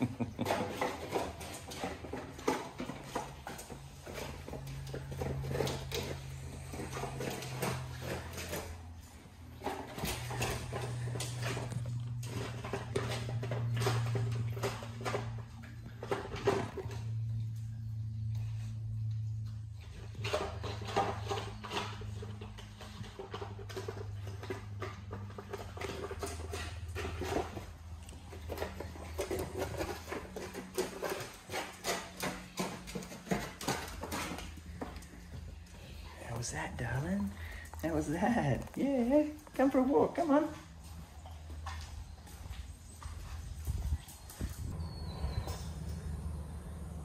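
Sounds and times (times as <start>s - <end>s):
dog eating from metal tray: 0.0s - 47.0s
steady low hum: 0.0s - 47.0s.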